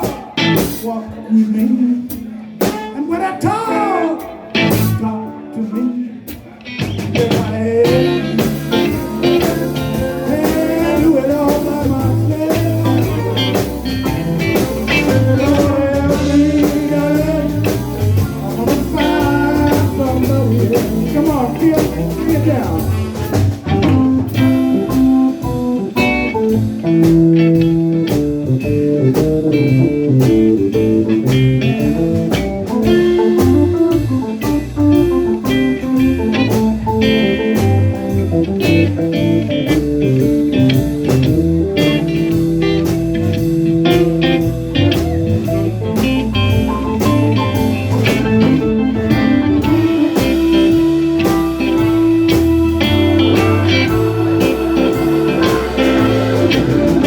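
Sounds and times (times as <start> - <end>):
bass guitar: 0.0 - 57.0
drum kit beat: 0.0 - 57.0
electric guitar lead: 3.7 - 57.0.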